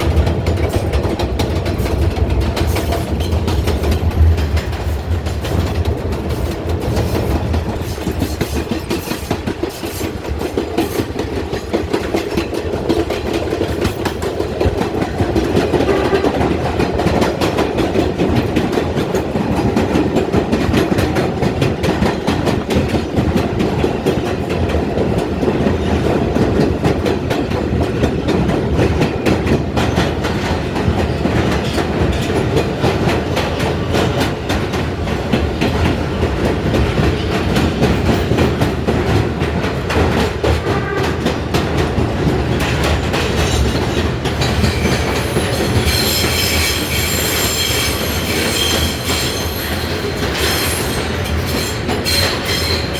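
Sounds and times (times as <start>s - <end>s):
subway train rumbling: 0.0s - 52.9s
wheels clacking over rail joints: 0.0s - 52.9s.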